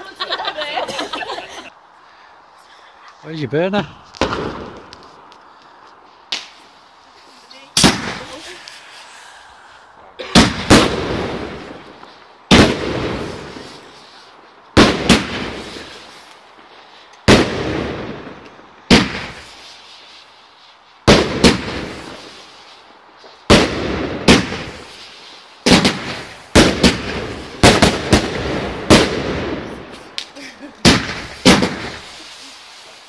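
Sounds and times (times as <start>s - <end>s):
fireworks crackle: 1.2s - 33.0s
fireworks bangs: 3.6s - 9.3s, 10.1s - 20.2s, 21.0s - 33.0s.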